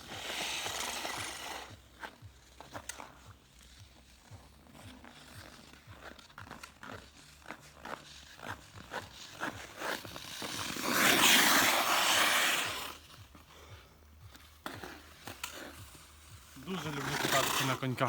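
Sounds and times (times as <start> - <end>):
loud skate scrape on ice: 0.0 - 13.7, 14.3 - 18.0
skate blades clicking on ice: 0.0 - 18.0.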